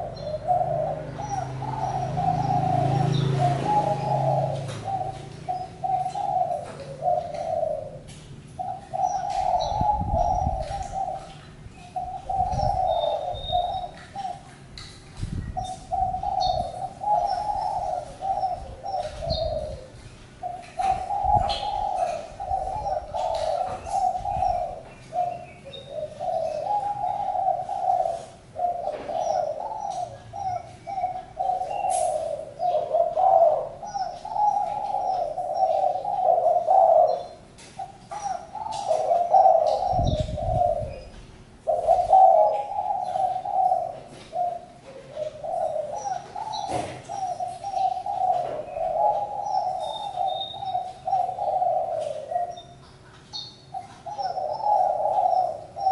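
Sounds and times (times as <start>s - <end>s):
doves cooing: 0.0s - 55.9s.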